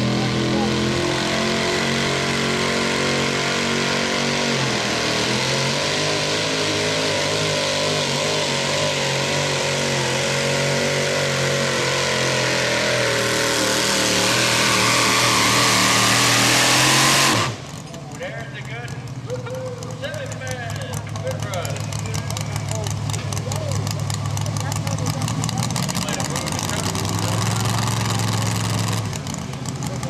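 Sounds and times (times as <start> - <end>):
truck engine at full throttle: 0.0 - 30.0.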